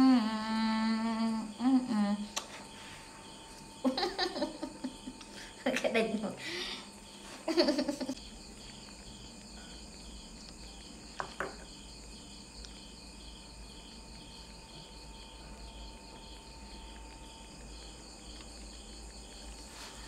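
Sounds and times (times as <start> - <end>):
continuous insect trill: 0.0 - 20.0
insects chirping: 0.0 - 20.0.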